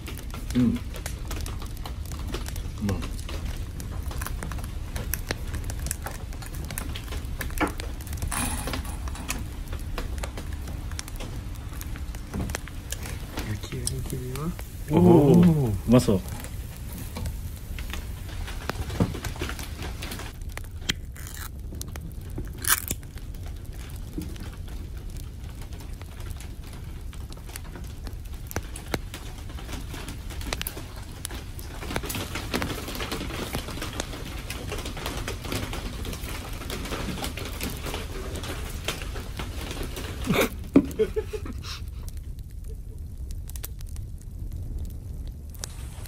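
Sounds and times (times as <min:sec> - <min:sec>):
soft crackling and patter: 0:00.0 - 0:46.0.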